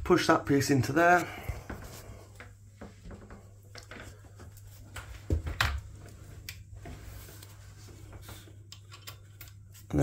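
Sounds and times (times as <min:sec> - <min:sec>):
light clicks and handling rustles: 0:01.0 - 0:10.0.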